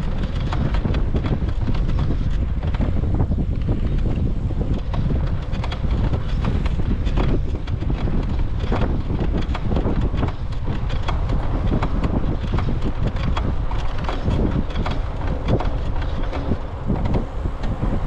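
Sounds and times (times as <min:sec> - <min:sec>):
small clicks and rattles: 0:00.0 - 0:18.0
wind buffeting microphone: 0:00.0 - 0:18.0.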